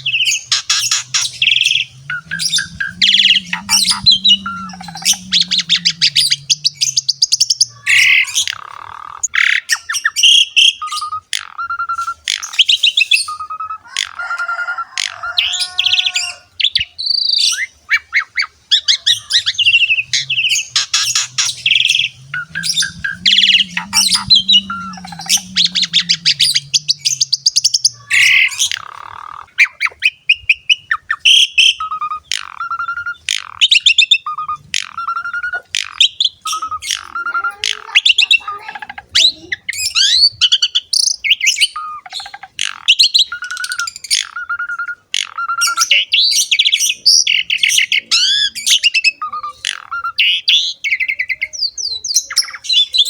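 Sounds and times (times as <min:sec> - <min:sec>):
starling singing: 0:00.0 - 0:53.0.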